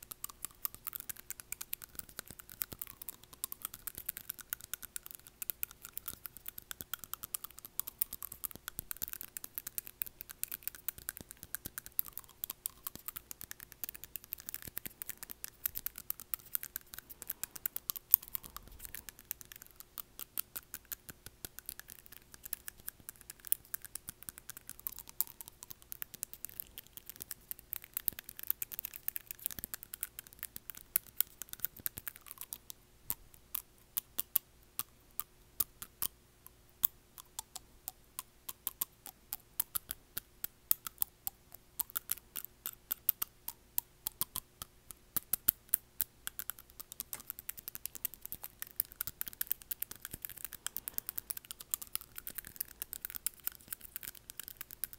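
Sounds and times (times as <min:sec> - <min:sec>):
nail tapping and scraping teeth: 0:00.0 - 0:54.9.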